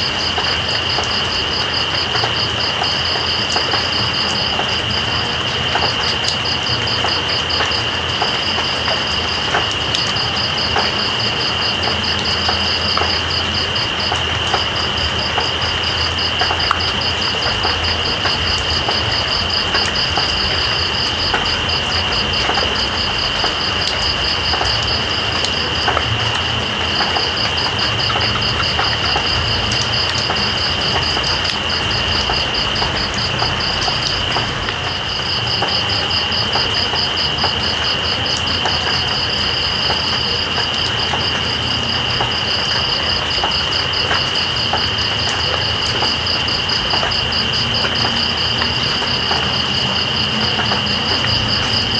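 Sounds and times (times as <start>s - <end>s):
rain hiss: 0.0s - 51.9s
water drips ticking: 0.0s - 51.9s.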